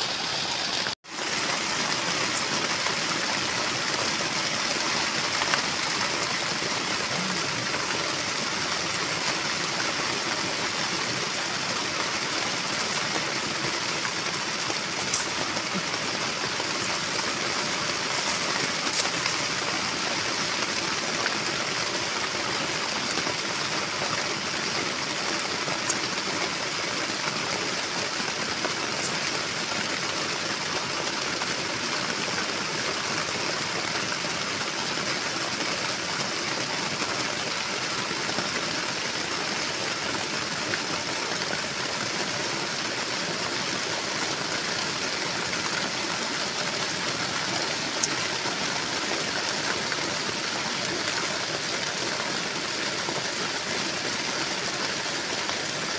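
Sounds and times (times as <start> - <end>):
heavy rain on a tent: 0.0 - 55.9.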